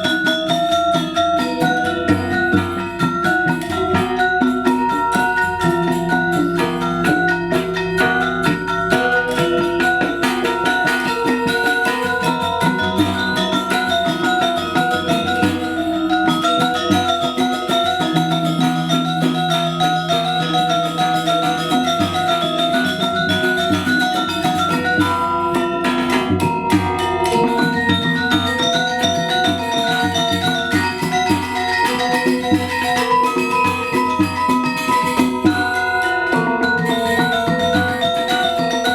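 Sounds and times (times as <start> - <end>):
gamelan metallophones ringing: 0.0 - 38.9.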